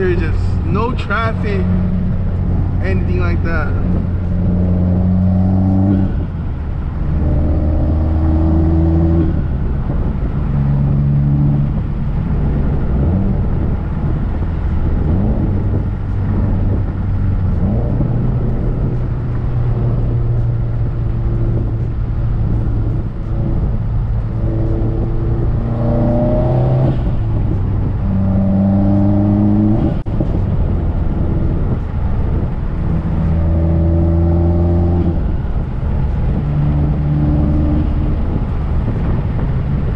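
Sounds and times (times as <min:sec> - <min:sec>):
turbocharged car engine accelerating: 0:00.0 - 0:39.9.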